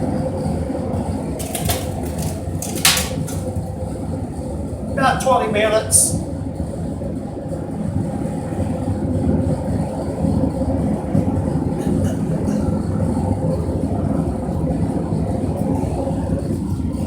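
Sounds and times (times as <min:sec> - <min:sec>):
furnace burner rumble: 0:00.0 - 0:17.0.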